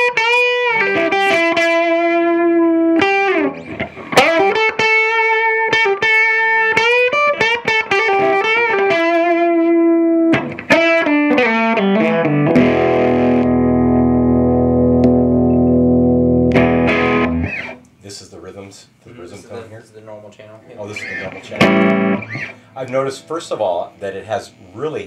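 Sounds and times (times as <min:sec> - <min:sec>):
overdriven electric guitar lead: 0:00.0 - 0:17.9, 0:20.8 - 0:23.4.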